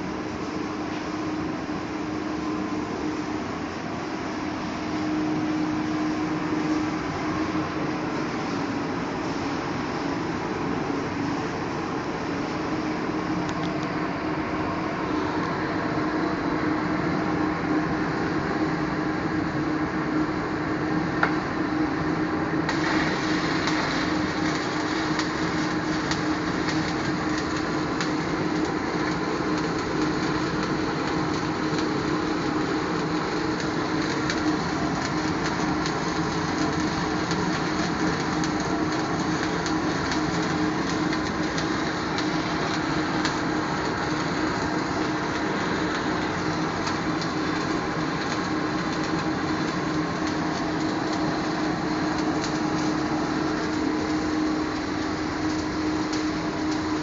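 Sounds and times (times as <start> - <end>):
steady electrical hum: 0.0 - 57.0
welding arc crackling: 0.0 - 57.0.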